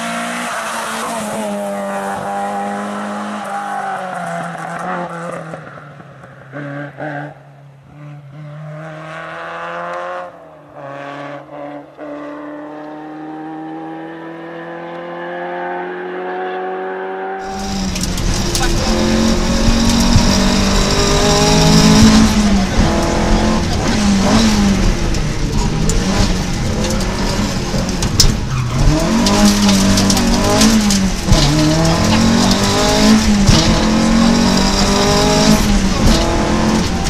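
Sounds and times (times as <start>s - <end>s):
rally car engine revving: 0.0s - 5.8s, 6.4s - 37.0s.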